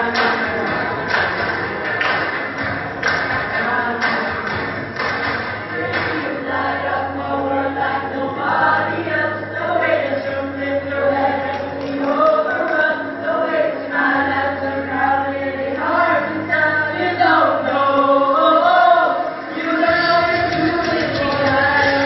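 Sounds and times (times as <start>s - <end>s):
boys singing in harmony: 0.0s - 22.0s
fuller musical backing: 0.0s - 22.0s.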